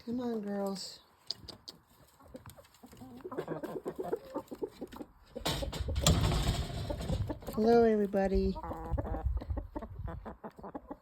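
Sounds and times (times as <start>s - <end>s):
chickens clucking: 0.3s - 11.0s.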